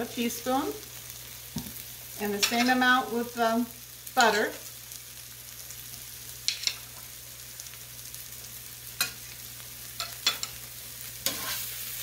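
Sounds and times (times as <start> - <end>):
vegetables sizzling in a skillet: 0.0 - 12.0.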